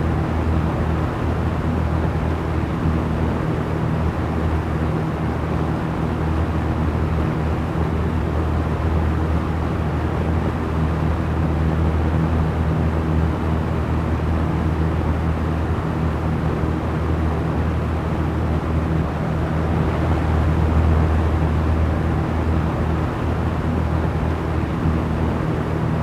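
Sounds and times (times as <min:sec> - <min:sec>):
electric fan running: 0:00.0 - 0:26.0.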